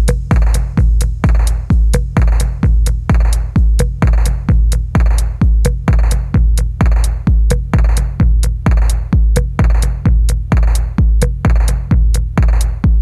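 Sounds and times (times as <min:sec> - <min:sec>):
electronic music with kick drum: 0:00.0 - 0:13.0.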